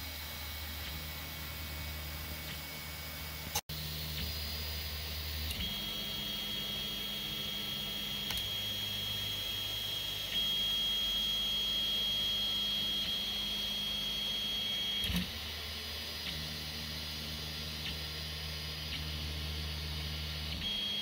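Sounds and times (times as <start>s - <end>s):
stepper motors whining: 3.8s - 21.0s.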